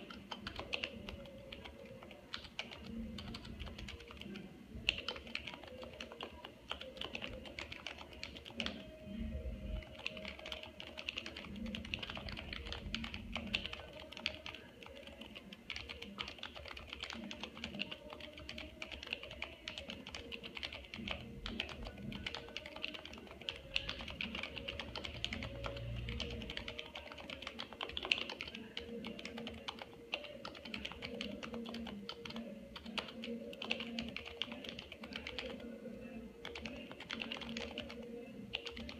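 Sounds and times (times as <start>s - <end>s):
fast typing on soft keys: 0.0s - 9.0s, 9.8s - 35.7s, 36.4s - 38.9s.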